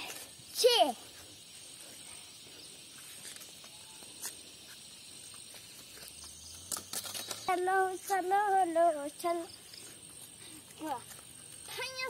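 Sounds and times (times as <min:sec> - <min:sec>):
faint hiss: 0:00.0 - 0:12.0
high thin insect-like whine: 0:00.0 - 0:12.0.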